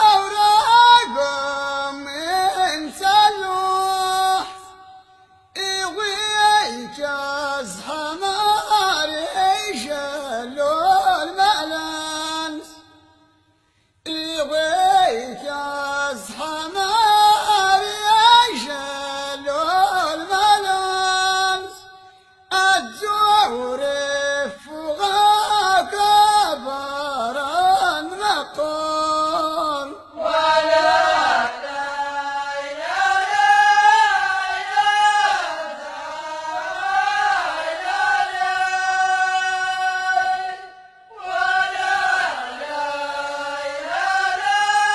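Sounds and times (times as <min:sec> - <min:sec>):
person singing ornamented phrases: 0:00.0 - 0:05.0, 0:05.6 - 0:13.2, 0:14.1 - 0:44.9.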